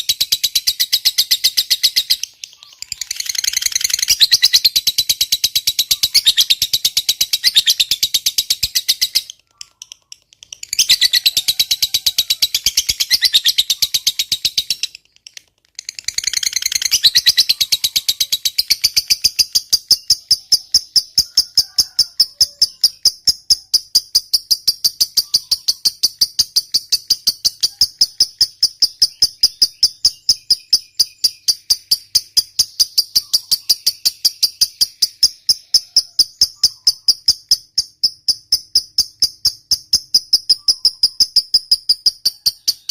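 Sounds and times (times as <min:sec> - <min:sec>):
lovebird shrill trilling: 0:00.0 - 0:15.0, 0:15.8 - 0:37.7, 0:40.3 - 0:42.9.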